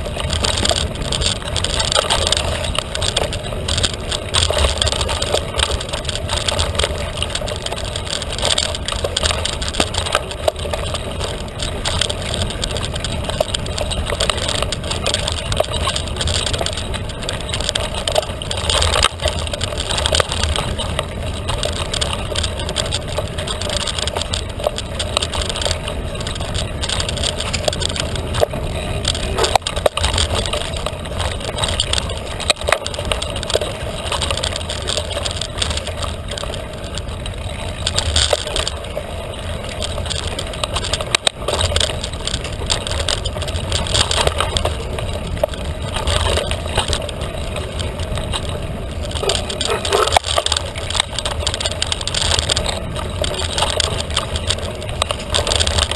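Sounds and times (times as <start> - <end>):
bike knocks and rattles: 0.0 - 55.9
steady rushing rumble: 0.0 - 55.9
tyres crunching over dirt: 0.0 - 55.9.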